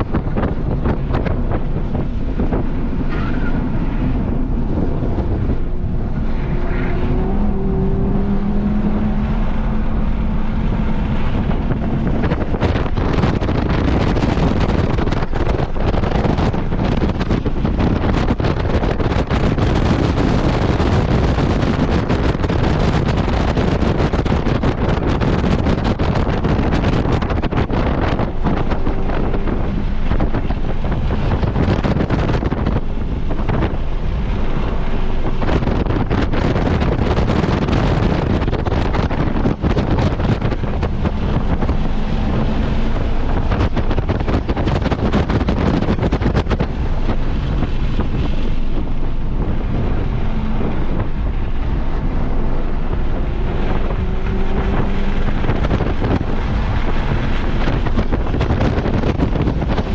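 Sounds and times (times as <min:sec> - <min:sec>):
faint car engine: 0:00.0 - 0:59.9
wind buffeting microphone: 0:00.0 - 0:59.9.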